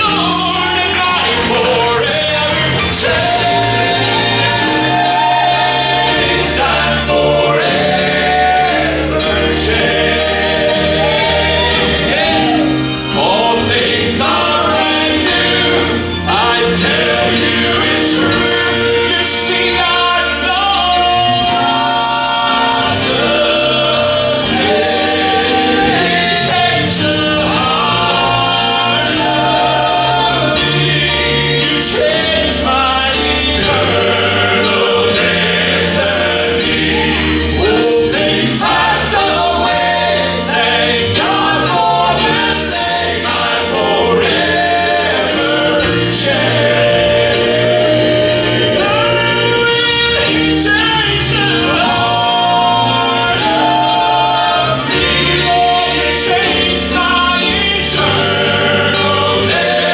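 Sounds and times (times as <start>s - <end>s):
instrumental accompaniment: 0.0s - 59.9s
male quartet singing in harmony: 0.0s - 59.9s.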